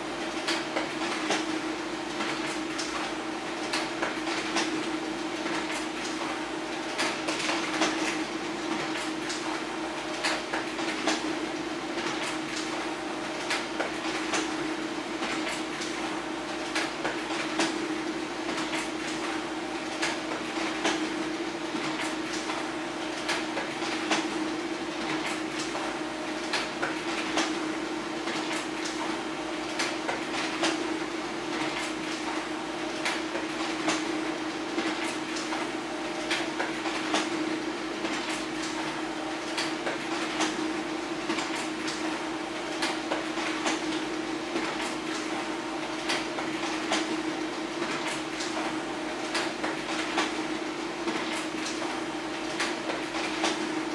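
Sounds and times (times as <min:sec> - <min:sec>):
laser printer running: 0:00.0 - 0:53.9.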